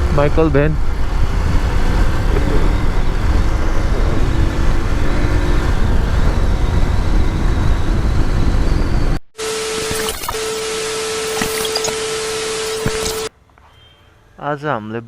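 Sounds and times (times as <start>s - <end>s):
motorcycle engine hum: 0.0s - 13.3s
road noise: 0.0s - 14.5s.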